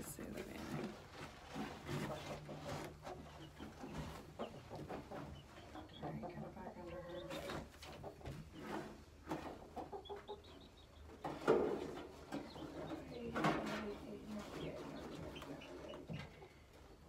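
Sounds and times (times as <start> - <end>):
hen clucking and growling: 1.6 - 17.0.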